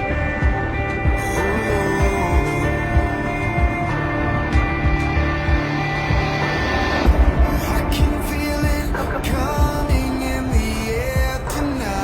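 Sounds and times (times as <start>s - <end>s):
low beat: 0.0s - 12.0s
melody of gliding notes: 0.0s - 12.0s.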